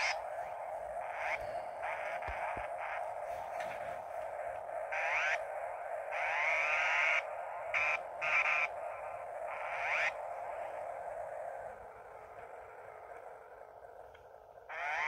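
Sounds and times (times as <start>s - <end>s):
synthesizer buzzing drone: 0.0s - 13.8s.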